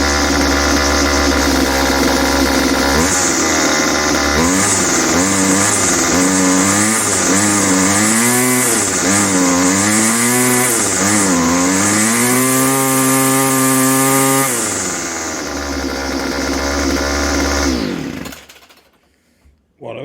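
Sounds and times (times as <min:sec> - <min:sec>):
string trimmer engine revving: 0:00.0 - 0:19.1.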